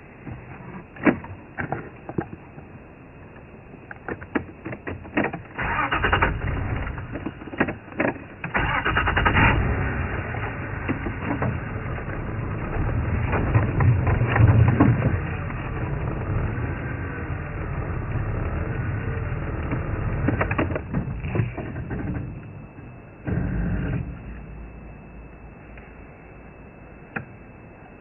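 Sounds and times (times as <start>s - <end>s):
crackling and rustling branches: 0.0s - 26.4s
vehicle engine rumble: 0.0s - 28.0s.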